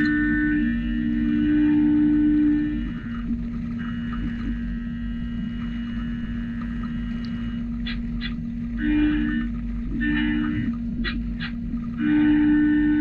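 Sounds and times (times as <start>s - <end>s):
milling machine cutting hum: 0.0s - 13.0s.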